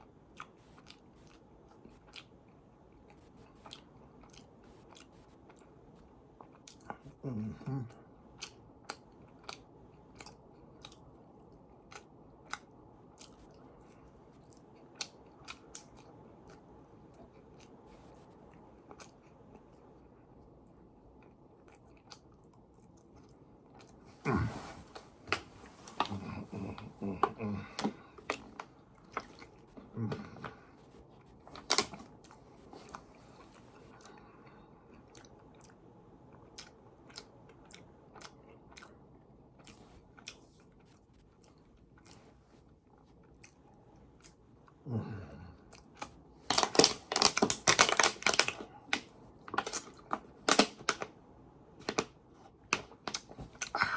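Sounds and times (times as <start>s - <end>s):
steady low hiss: 0.0s - 53.9s
person chewing: 0.3s - 7.2s, 8.3s - 44.9s, 52.8s - 53.9s.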